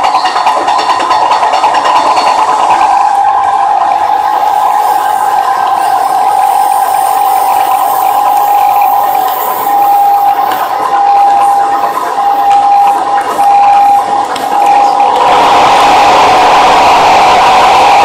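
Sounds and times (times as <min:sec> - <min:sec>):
electric train high whine: 0:00.0 - 0:18.0
train running hiss: 0:00.0 - 0:18.0.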